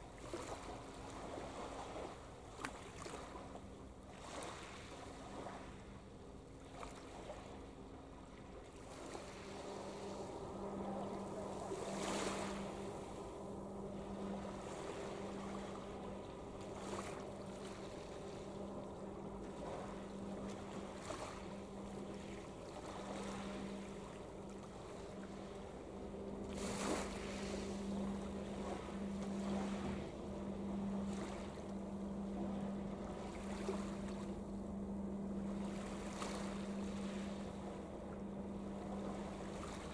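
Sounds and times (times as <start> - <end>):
ship engines humming: 3.4 - 39.9.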